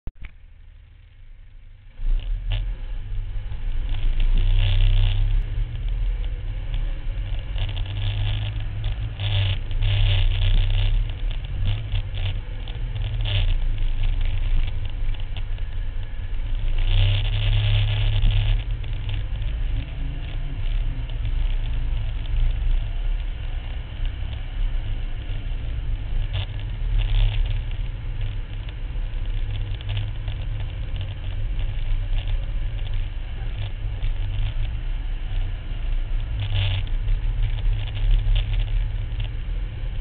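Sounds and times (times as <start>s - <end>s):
vehicle engine droning under load: 0.1s - 40.0s.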